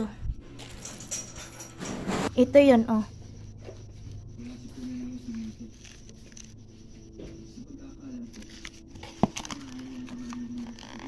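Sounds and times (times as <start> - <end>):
faint wavering tone: 0.0 - 11.0.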